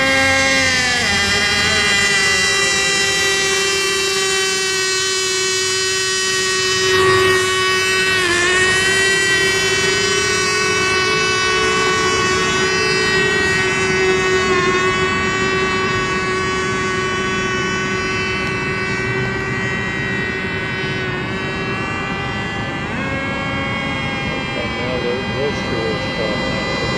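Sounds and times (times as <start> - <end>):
racing boat engines whining: 0.0 - 26.9.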